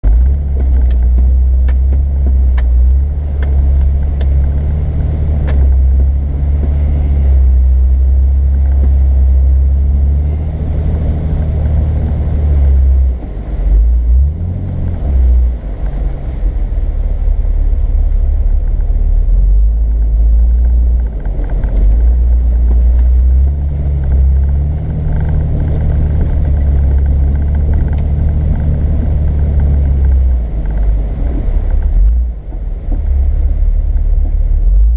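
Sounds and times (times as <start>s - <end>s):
deep continuous rumble: 0.0s - 34.9s
off-road vehicle engine: 0.0s - 34.9s.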